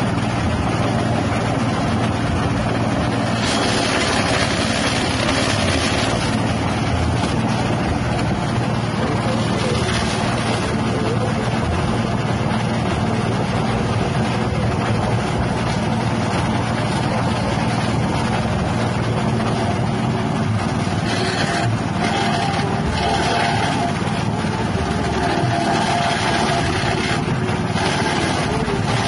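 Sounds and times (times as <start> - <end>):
petrol engine running steadily: 0.0 - 29.0.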